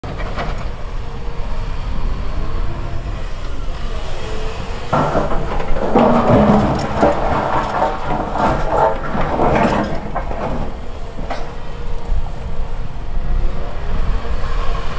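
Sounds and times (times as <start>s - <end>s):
excavator diesel engine rumbling: 0.0s - 14.9s.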